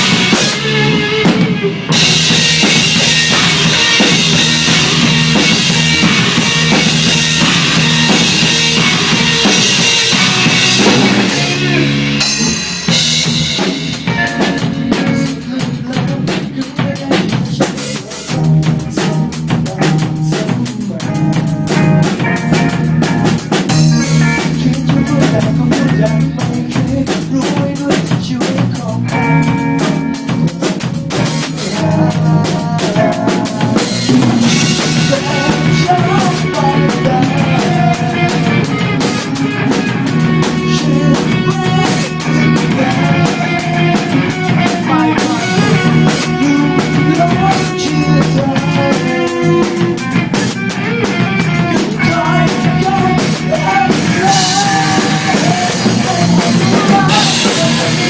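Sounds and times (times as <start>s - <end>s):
drum kit hitting: 0.0s - 58.0s
rock band playing live: 0.0s - 58.0s.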